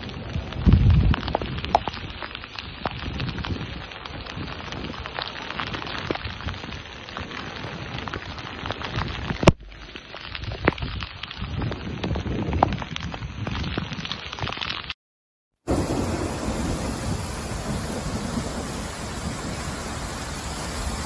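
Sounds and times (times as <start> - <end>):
rain falling on hard surfaces: 0.0 - 15.0, 15.7 - 21.0.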